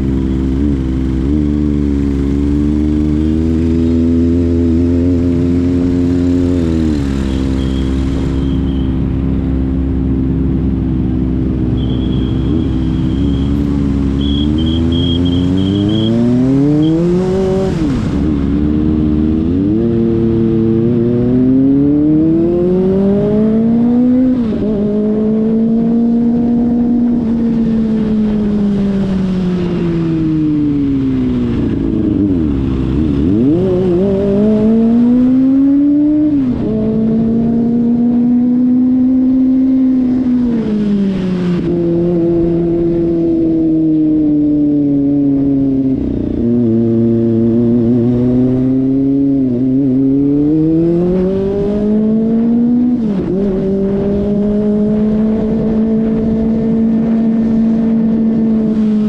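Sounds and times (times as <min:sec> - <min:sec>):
motorcycle engine shifting gears: 0:00.0 - 0:59.0.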